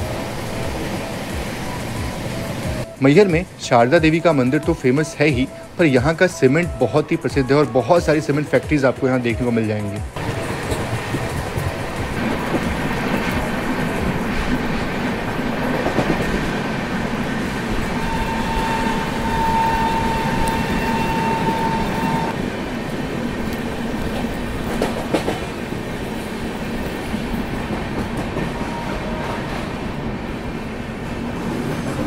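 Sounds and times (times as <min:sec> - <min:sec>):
train rumble and wheel clatter: 0:00.0 - 0:32.0.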